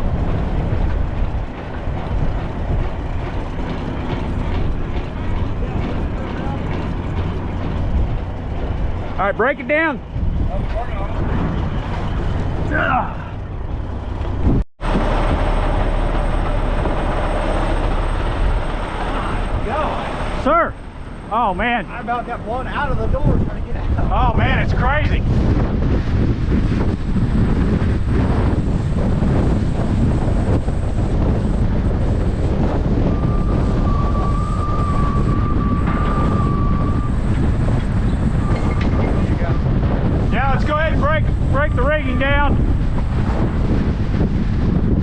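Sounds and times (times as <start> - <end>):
wind blasting microphone: 0.0 - 45.0.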